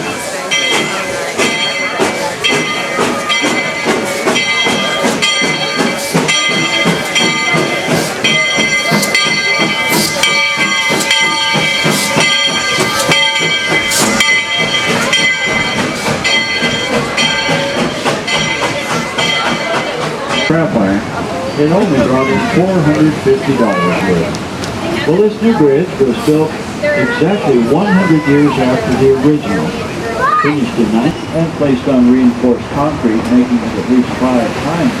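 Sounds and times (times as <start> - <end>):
steam locomotive chuffing: 0.0 - 35.0.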